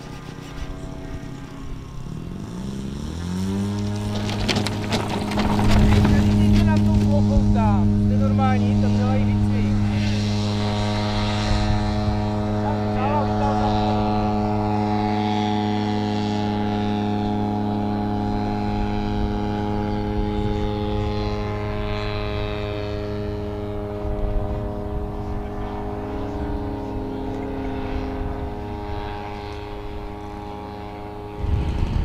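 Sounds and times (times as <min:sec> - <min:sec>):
model aircraft engine and propeller: 0:00.0 - 0:32.0.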